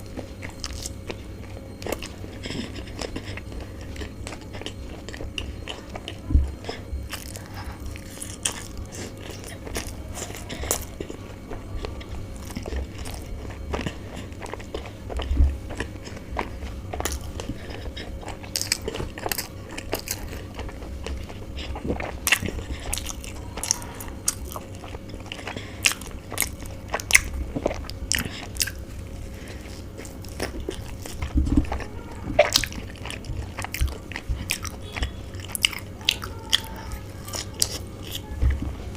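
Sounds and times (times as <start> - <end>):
food crunching: 0.0 - 38.9
person chewing food: 0.0 - 38.9.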